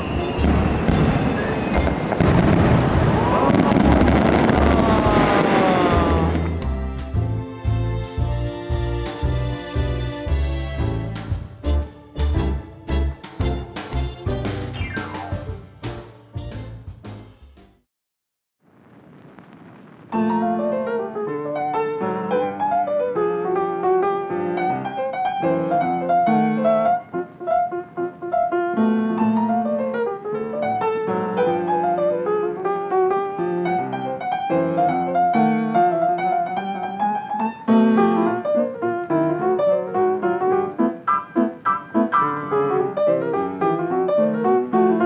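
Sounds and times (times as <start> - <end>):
gentle piano melody: 0.0 - 16.9, 20.2 - 45.0.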